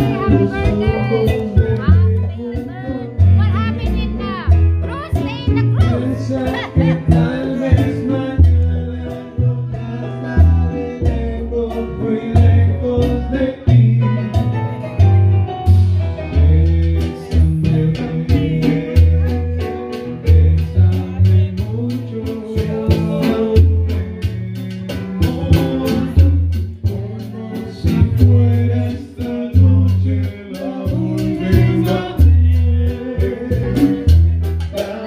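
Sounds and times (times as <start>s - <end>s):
song with guitar and bass: 0.0s - 35.0s.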